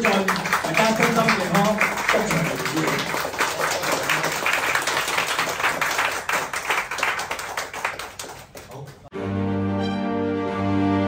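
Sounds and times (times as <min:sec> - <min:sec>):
people applauding: 0:00.0 - 0:09.1.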